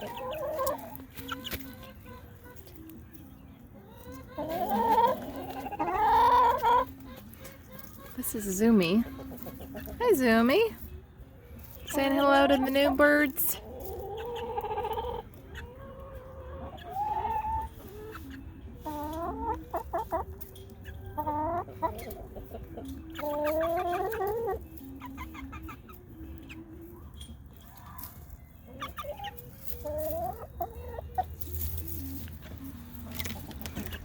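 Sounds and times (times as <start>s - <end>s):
chickens calling: 0.0s - 34.0s
chickens clucking: 0.0s - 34.0s.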